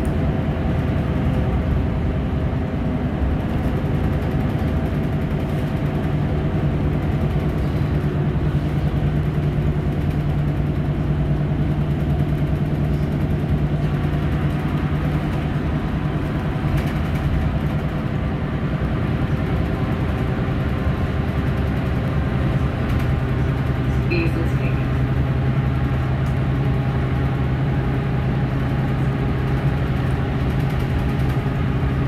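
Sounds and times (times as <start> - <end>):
bus engine drone: 0.0 - 32.0
road and tyre noise: 0.0 - 32.0.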